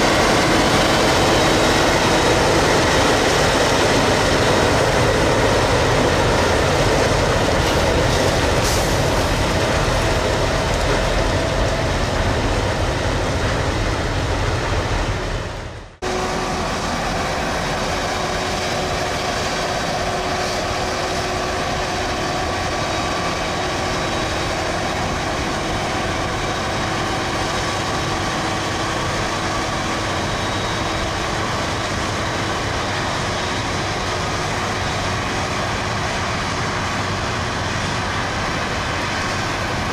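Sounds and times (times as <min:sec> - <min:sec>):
heavy harvesting machinery running: 0:00.0 - 0:39.9.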